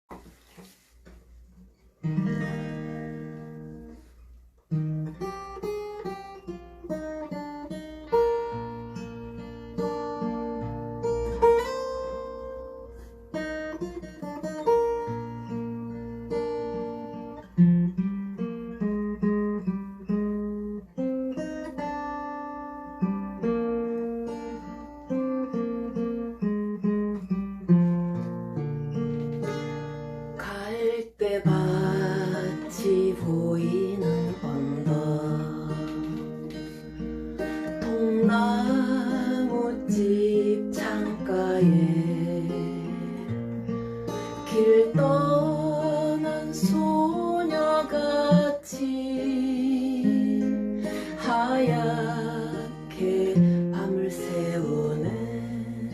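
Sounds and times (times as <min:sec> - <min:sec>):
acoustic guitar plucked chords: 0:00.1 - 0:55.9.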